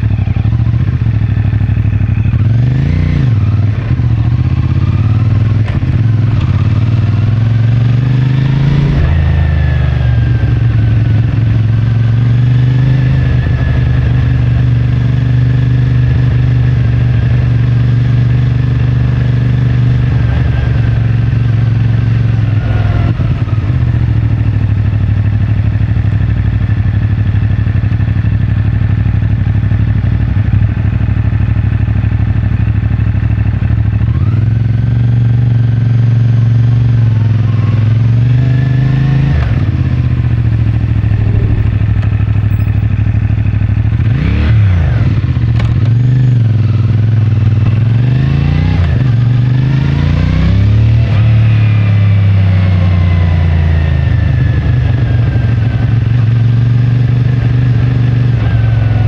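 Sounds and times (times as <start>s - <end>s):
motorcycle engine revving: 0.0s - 26.8s, 33.9s - 59.0s.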